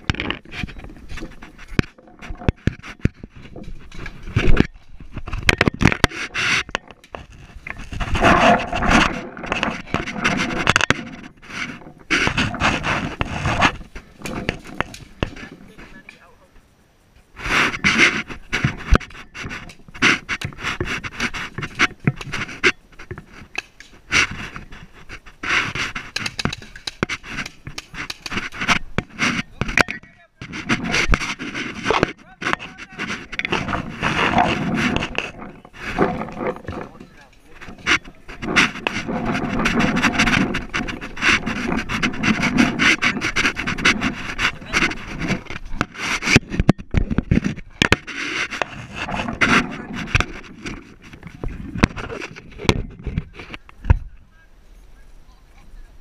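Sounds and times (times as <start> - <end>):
camera rubbing against gear: 0.0 - 54.3.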